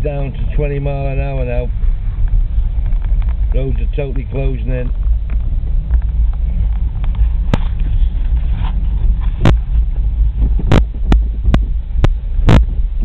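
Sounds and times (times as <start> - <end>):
car engine and tyres rumble: 0.0 - 13.0.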